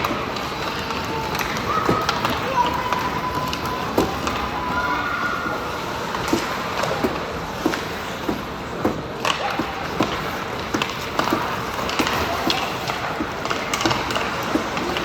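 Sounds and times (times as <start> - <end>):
arena noise: 0.0 - 15.0.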